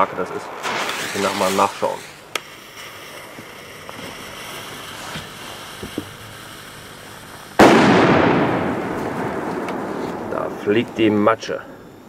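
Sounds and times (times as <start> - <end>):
firecracker bang: 0.0 - 11.1.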